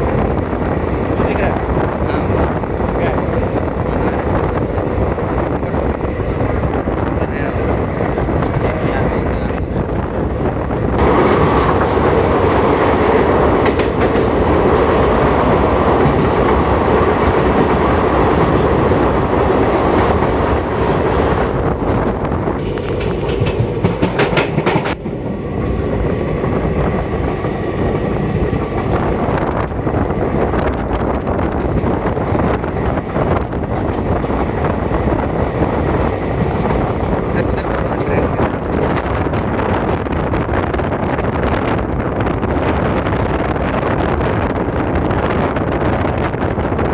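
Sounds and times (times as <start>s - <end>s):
train wheels clattering on rails: 8.2s - 29.9s, 30.5s - 46.9s.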